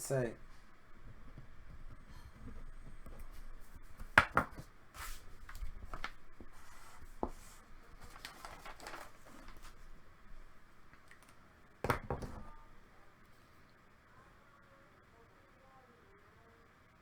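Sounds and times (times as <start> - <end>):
rustling and handling noises: 0.0 - 13.8.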